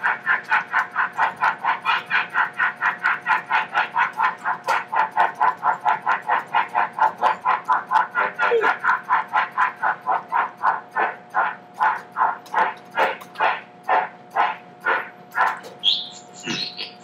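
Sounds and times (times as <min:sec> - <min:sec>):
synthesizer pulsing stutter: 0:00.0 - 0:16.8.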